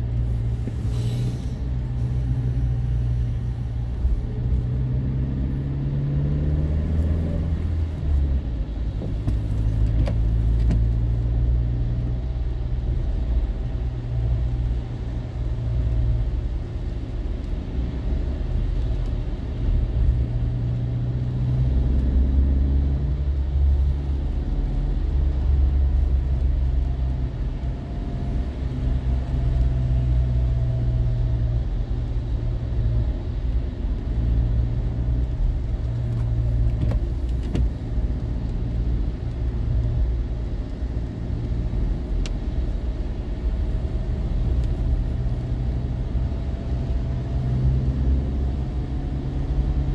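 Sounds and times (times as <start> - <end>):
car driving on a wet road: 0.0 - 49.9.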